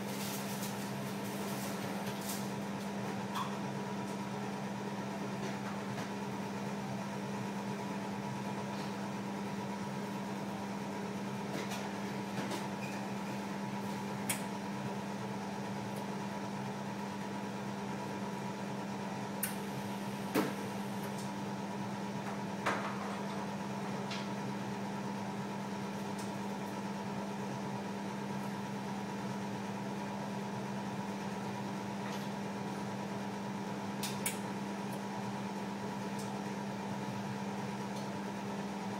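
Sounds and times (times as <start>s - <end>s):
mechanical hum with whine: 0.0s - 38.9s.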